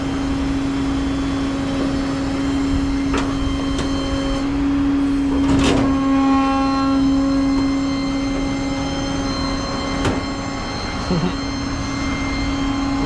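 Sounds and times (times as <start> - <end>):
road noise: 0.0 - 13.0
truck engine droning: 0.0 - 13.0.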